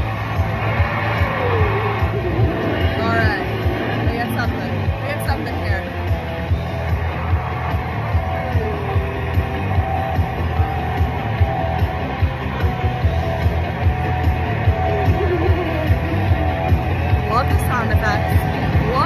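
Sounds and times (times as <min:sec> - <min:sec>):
slot machine rock music: 0:00.0 - 0:19.0.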